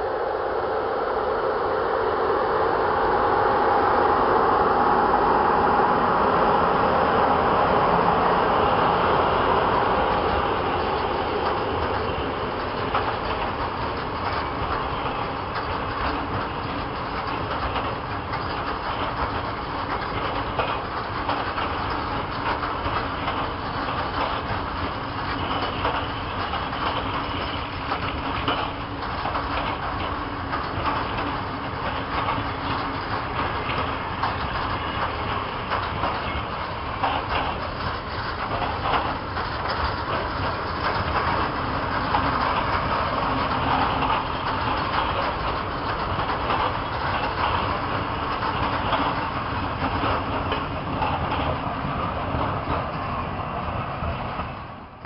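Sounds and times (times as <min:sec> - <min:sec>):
freight train rolling past: 0:00.0 - 0:55.0
wheels clicking over rail joints: 0:07.7 - 0:55.0.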